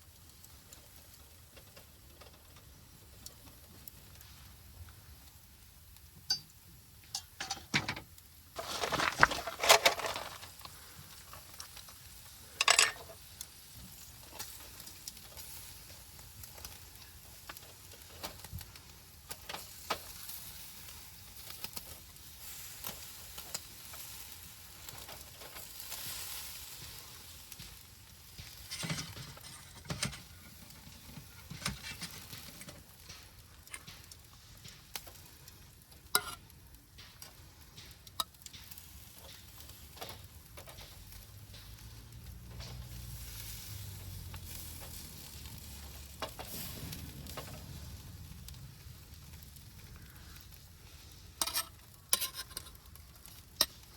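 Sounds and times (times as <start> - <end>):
wood fire hissing and crackling: 0.0 - 53.9.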